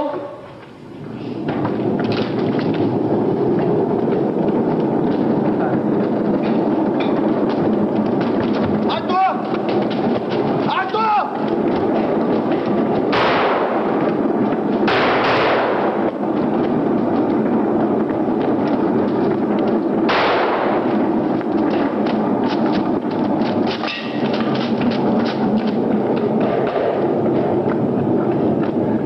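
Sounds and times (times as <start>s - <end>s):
continuous rumbling clatter: 0.0s - 29.0s.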